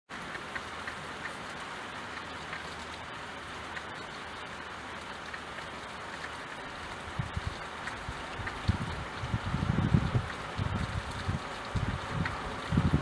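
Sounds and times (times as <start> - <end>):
single raindrops ticking: 0.1 - 13.0
steady rain hiss: 0.1 - 13.0.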